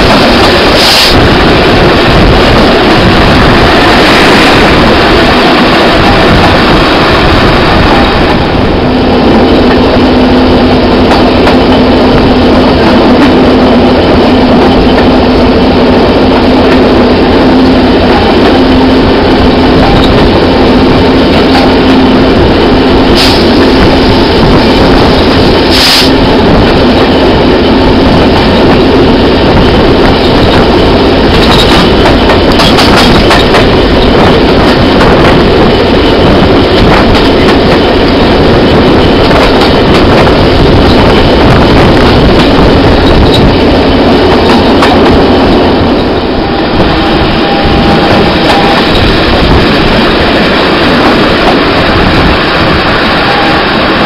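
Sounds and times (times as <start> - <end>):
diesel locomotive engine drone: 0.0 - 54.0
train wheels on rails: 0.0 - 54.0.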